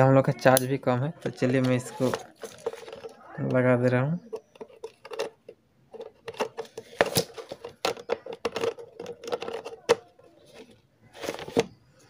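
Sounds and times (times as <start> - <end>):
plastic parts clicking and knocking: 0.4 - 11.8.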